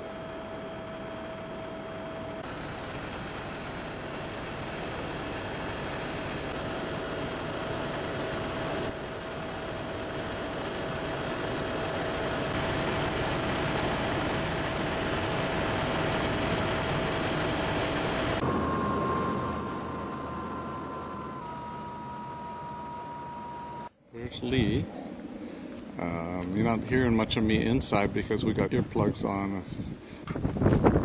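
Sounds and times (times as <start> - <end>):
helicopter cabin noise: 0.0 - 31.0
high engine whine: 0.0 - 31.0.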